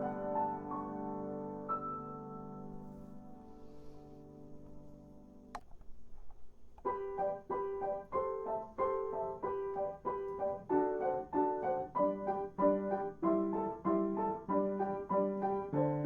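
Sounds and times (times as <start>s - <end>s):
piano music: 0.0s - 5.5s, 6.8s - 16.0s.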